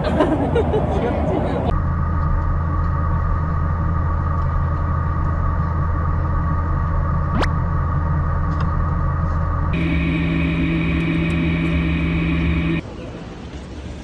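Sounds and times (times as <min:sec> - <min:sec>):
low engine drone: 0:00.0 - 0:12.8.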